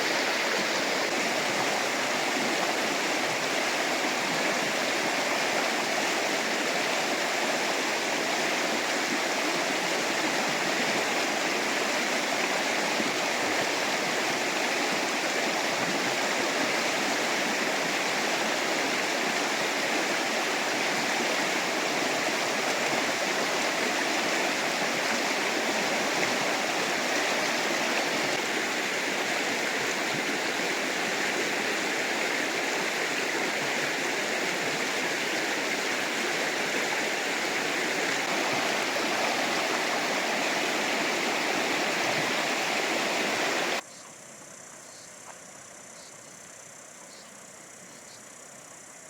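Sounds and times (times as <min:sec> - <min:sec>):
river rushing over rapids: 0:00.0 - 0:43.8.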